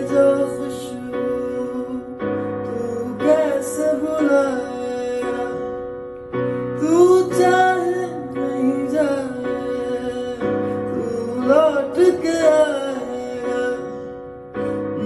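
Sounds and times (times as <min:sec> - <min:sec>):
electronic keyboard chords: 0:00.0 - 0:15.0
man singing: 0:00.0 - 0:15.0.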